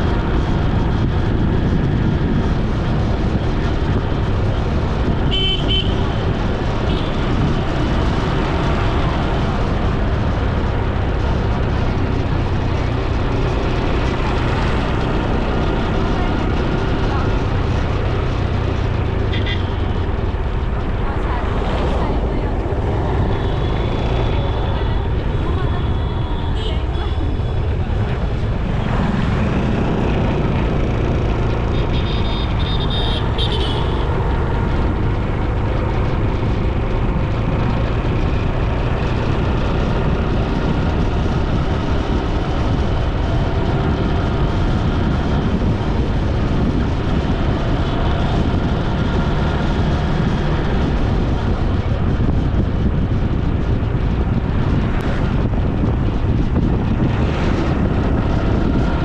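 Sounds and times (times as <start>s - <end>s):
vehicle engine and tyres: 0.0s - 59.0s
wind rush on microphone: 0.0s - 59.0s.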